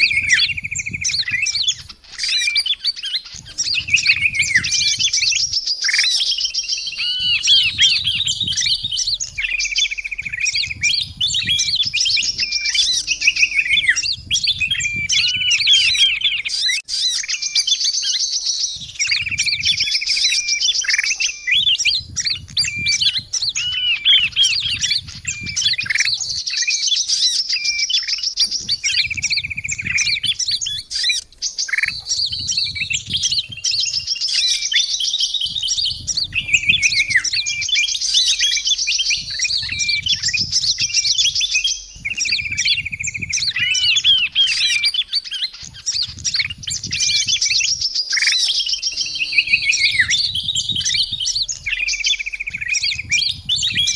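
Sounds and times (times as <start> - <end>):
buzzy bird trill: 0.0 - 53.9
songbirds chirping and trilling: 0.0 - 53.9.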